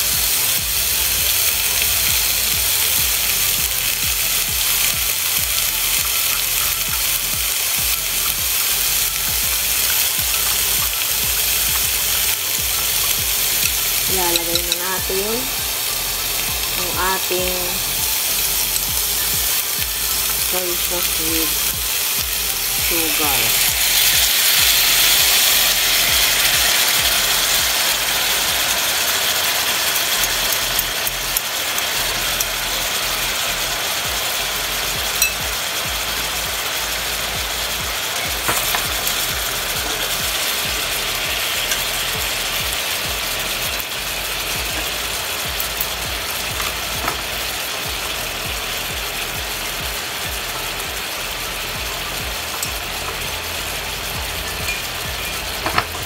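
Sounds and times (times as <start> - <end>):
sauce sizzling in a skillet: 0.0 - 56.0.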